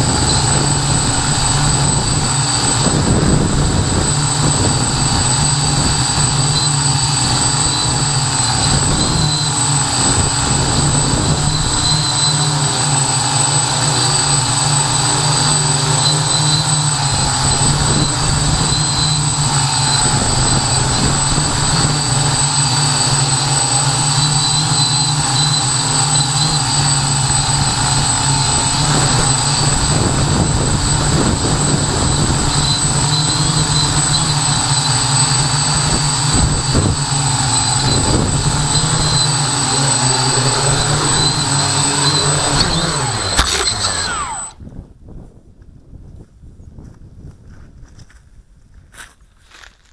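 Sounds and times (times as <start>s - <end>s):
wind buffeting microphone: 0.0s - 12.1s, 15.2s - 23.1s, 23.8s - 49.0s
drone propellers whirring: 0.0s - 44.9s.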